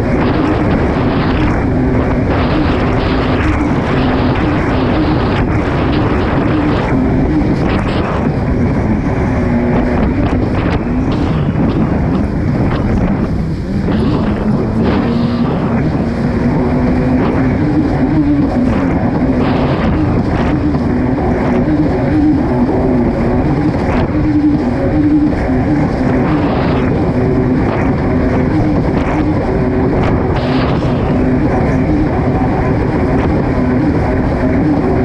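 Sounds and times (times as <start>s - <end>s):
hull slapping water: 0.0s - 35.0s
personal watercraft engine running: 0.0s - 35.0s
wind and water noise: 0.0s - 35.0s.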